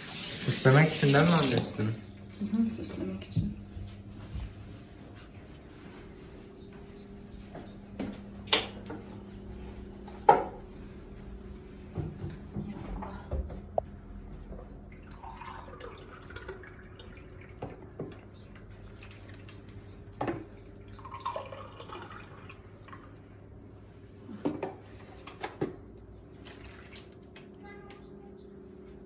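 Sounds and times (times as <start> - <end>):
steady low hum: 1.9 - 29.0.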